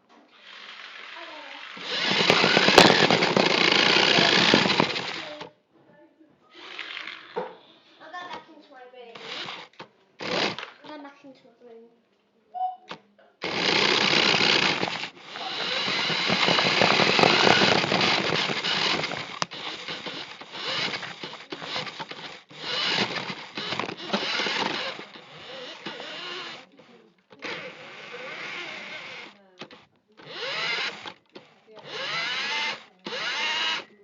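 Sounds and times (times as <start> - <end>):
toy car electric motor buzzing: 0.3 - 5.5, 6.5 - 7.5, 9.2 - 10.8, 13.4 - 34.0.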